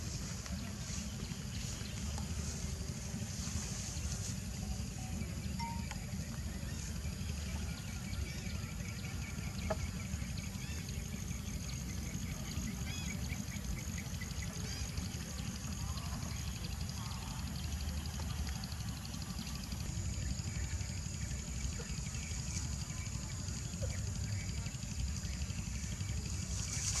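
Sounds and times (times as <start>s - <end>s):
high chirping of insects: 0.0s - 27.0s.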